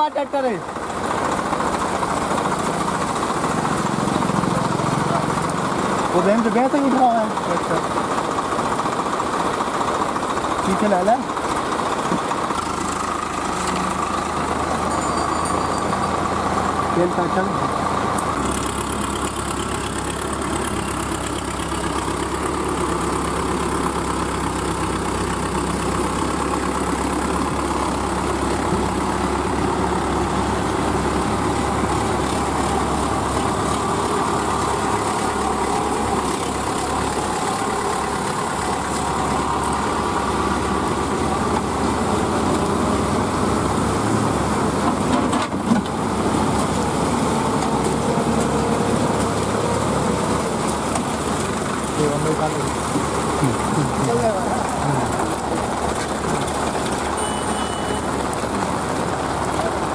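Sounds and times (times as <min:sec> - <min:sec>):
diesel tractor engines running: 0:00.0 - 0:59.9.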